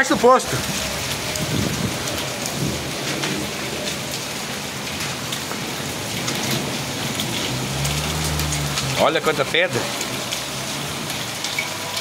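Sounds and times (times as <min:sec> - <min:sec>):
hailstones ticking: 0:00.0 - 0:12.0
rain hissing: 0:00.0 - 0:12.0.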